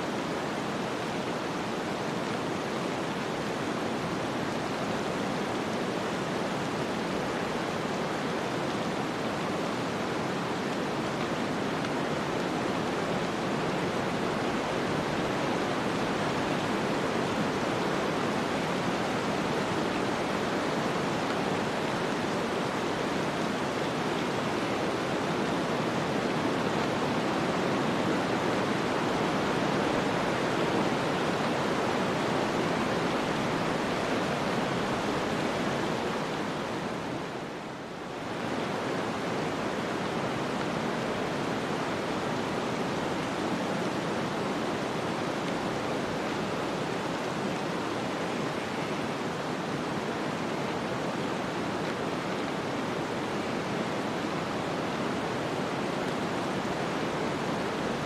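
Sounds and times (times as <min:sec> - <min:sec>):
snowstorm wind hiss: 0:00.0 - 0:58.0.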